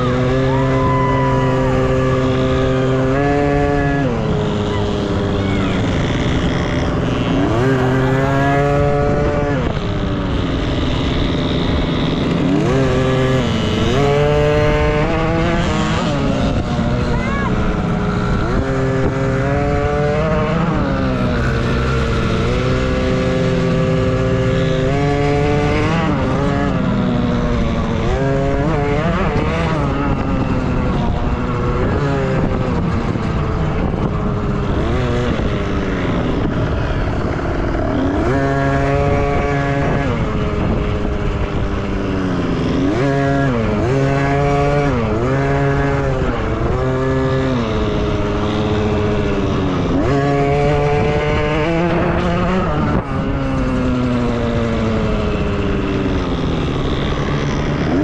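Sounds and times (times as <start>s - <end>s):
dirt bike engines racing: 0.0s - 58.0s.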